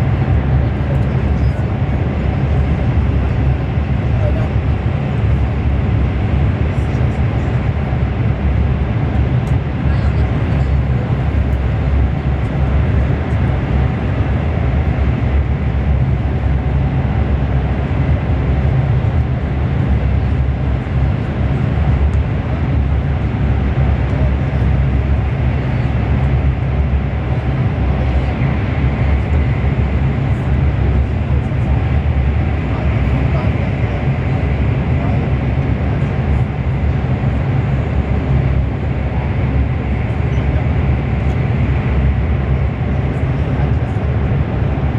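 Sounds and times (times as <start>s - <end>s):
train rumbling inside carriage: 0.0s - 44.9s.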